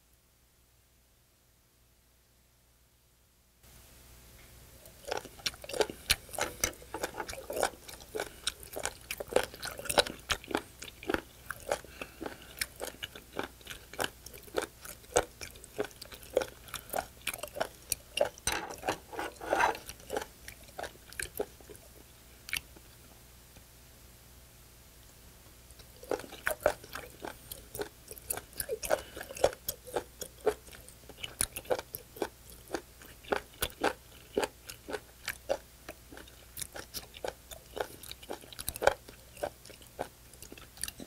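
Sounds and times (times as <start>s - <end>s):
person chewing with mouth smacks: 4.8s - 22.8s, 25.7s - 41.0s.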